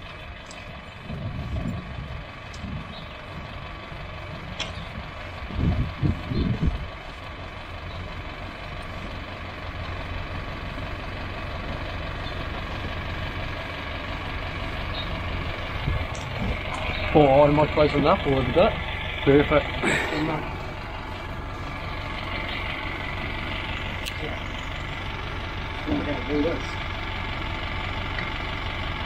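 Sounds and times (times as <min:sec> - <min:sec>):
loud low rumbles: 0:00.0 - 0:29.0
vehicle engine running at low revs: 0:00.0 - 0:29.0.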